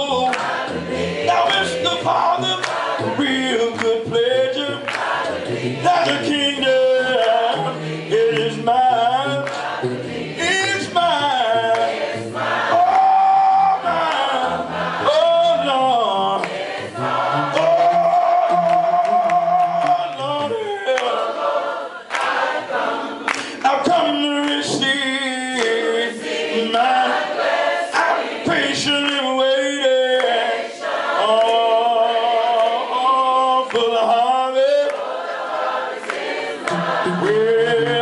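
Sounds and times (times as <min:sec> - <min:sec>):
gospel choir singing: 0:00.0 - 0:38.0.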